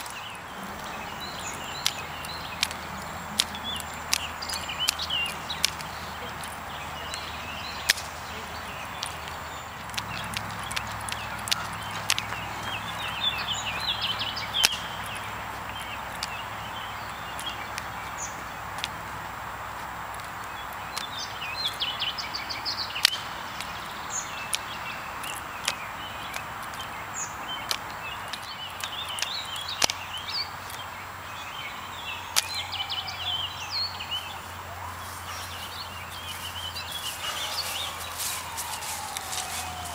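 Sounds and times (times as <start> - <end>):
outdoor background noise: 0.0 - 39.9
songbirds chirping: 0.0 - 39.9.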